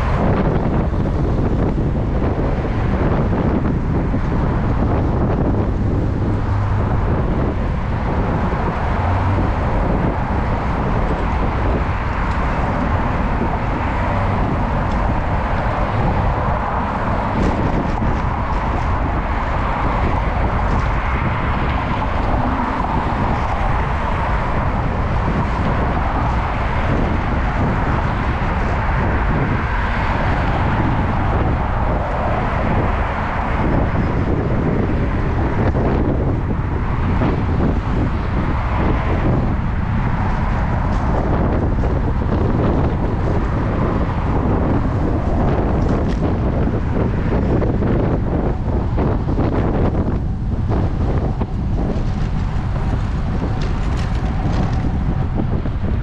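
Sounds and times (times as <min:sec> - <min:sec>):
road traffic noise: 0:00.0 - 0:56.0
wind rushing on microphone: 0:00.0 - 0:56.0.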